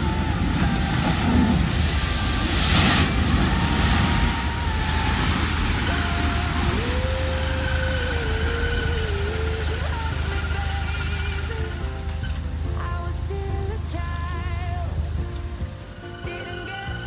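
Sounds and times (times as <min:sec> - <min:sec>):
water splashing: 0:00.0 - 0:15.0
low engine rumble: 0:00.0 - 0:17.0.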